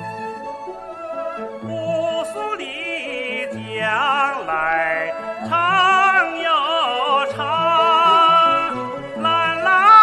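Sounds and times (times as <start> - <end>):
instrumental accompaniment: 0.0 - 10.0
man singing with vibrato: 0.9 - 10.0.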